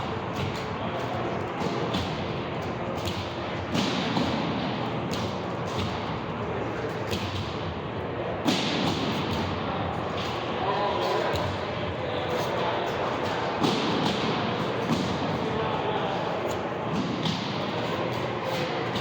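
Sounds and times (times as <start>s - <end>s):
crowd and game hum: 0.0s - 19.0s.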